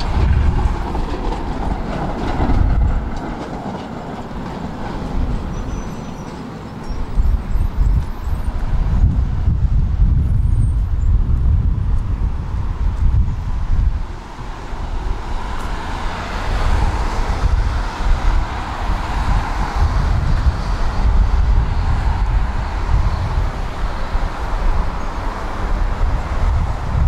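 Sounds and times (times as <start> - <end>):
vehicle low rumble: 0.0 - 27.0.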